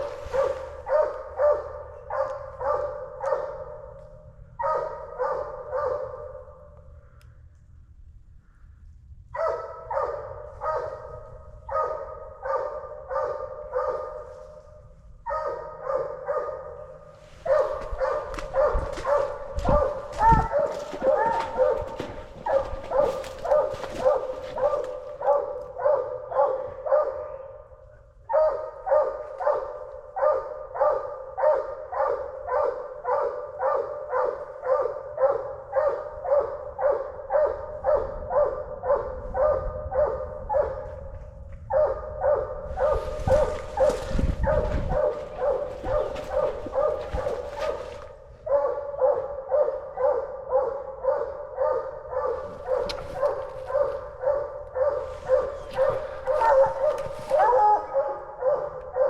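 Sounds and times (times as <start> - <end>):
hounds barking: 0.0 - 7.0, 9.3 - 59.0.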